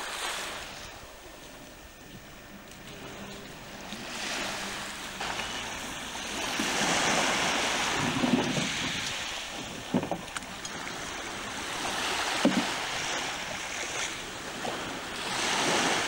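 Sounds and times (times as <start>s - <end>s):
wind rumbling on microphone: 0.0s - 16.0s
waves washing onto pebbles: 2.9s - 16.0s.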